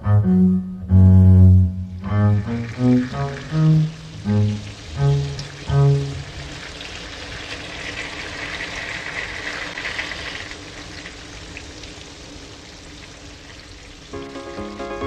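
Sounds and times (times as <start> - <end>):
rain pouring: 1.2 - 15.0.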